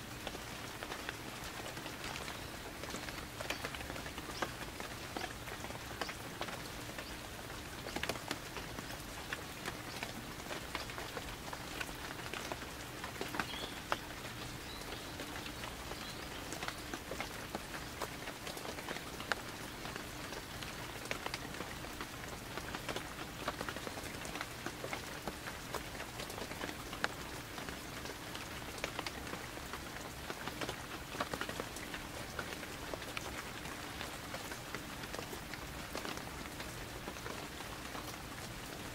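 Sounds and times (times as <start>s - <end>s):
light rain falling: 0.0s - 38.9s
raindrops ticking: 0.0s - 38.9s.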